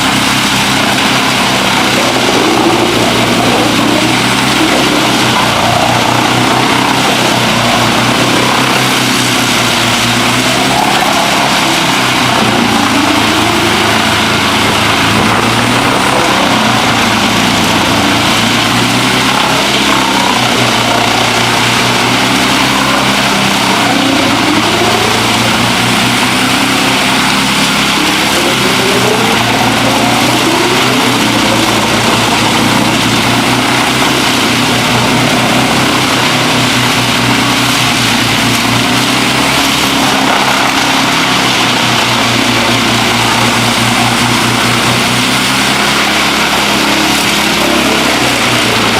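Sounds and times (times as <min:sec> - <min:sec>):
wood chipper engine running: 0:00.0 - 0:48.9.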